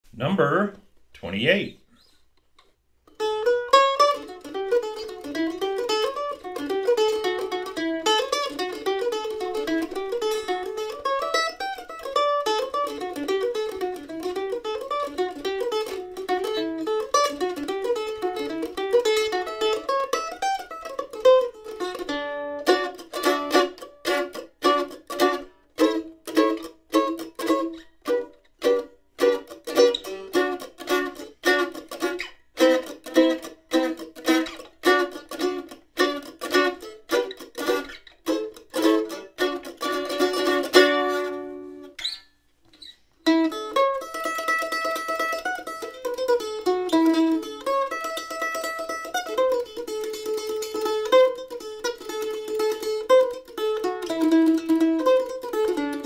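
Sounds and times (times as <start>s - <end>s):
mandolin played with a pick: 3.0s - 56.0s.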